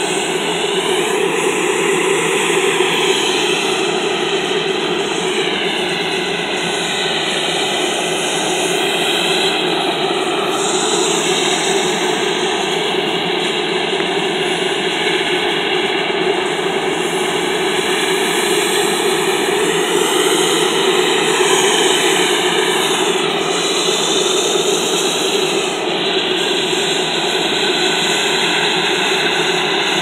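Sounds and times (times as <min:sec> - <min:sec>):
helicopter turbine rush: 0:00.0 - 0:30.0.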